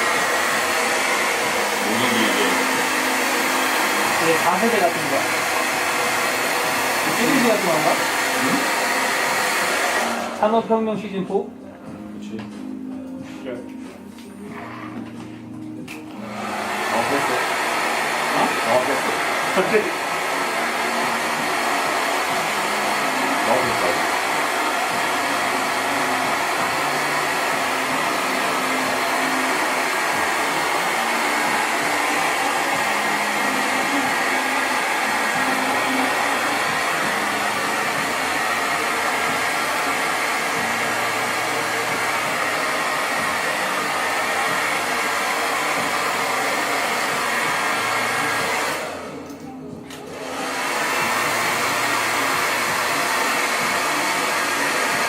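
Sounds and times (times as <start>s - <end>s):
hair dryer blowing: 0.0s - 10.9s, 14.2s - 55.0s.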